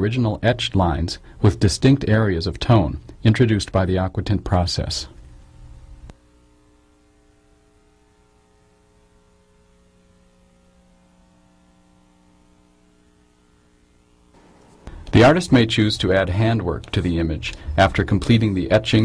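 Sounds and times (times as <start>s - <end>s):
faint mains hum: 0.0s - 19.0s.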